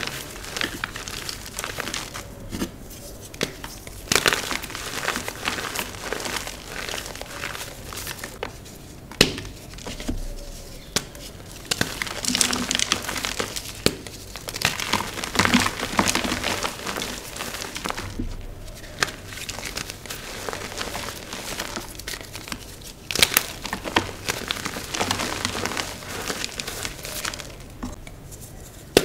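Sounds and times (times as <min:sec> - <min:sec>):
chalk crunching and crumbling: 0:00.0 - 0:28.8.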